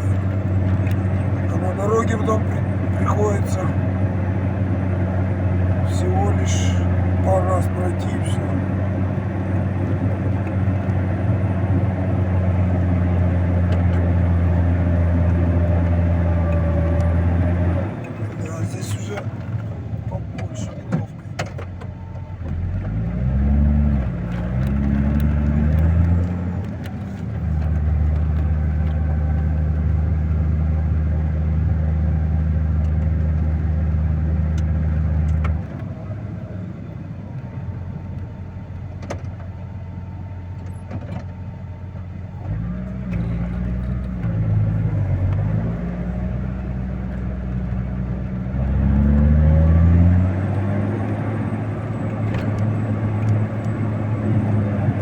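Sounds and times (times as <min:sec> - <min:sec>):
snow-clearing machine engine: 0:00.0 - 0:55.0.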